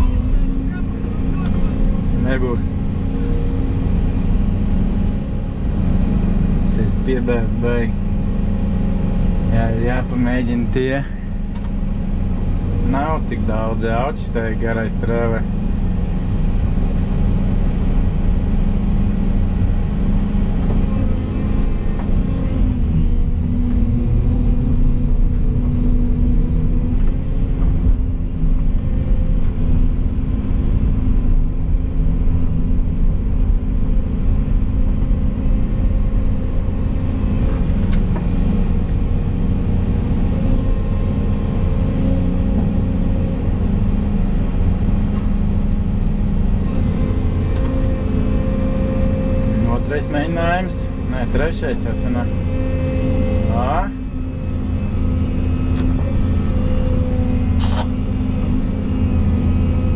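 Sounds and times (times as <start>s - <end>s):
excavator engine and hydraulics droning: 0.0s - 59.9s.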